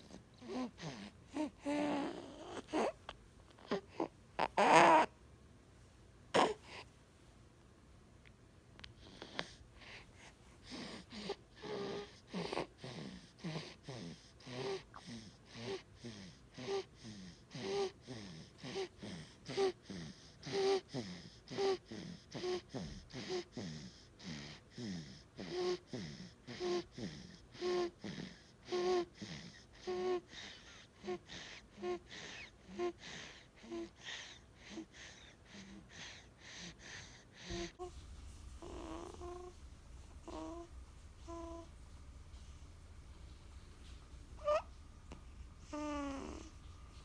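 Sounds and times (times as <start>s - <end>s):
baby breathing with grunts: 0.0s - 3.0s, 6.4s - 6.9s, 9.0s - 47.0s.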